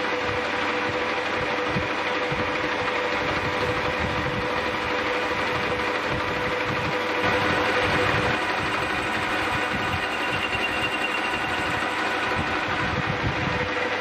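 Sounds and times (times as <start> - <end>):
lathe whining: 0.0 - 14.0.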